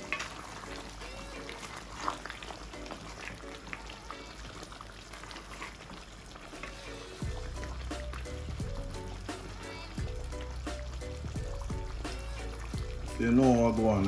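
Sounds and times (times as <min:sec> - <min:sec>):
gravy bubbles popping: 0:00.0 - 0:13.6
quiet background music: 0:00.0 - 0:14.0.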